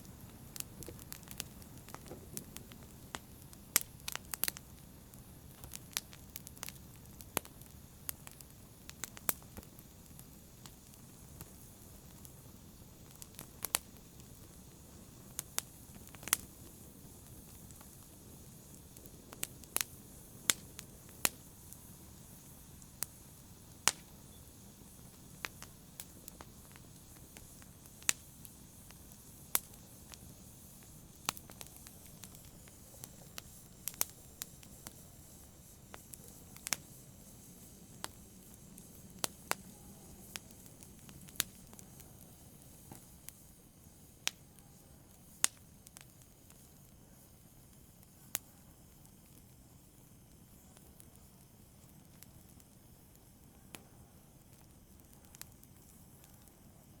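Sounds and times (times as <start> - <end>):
fire low hiss: 0.0 - 57.0
wood fire crackling and popping: 0.0 - 57.0.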